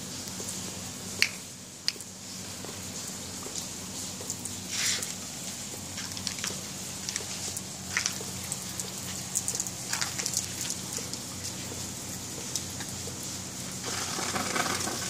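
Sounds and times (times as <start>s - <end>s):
raindrops ticking on surfaces: 0.0s - 15.0s
steady rain hiss: 0.0s - 15.0s.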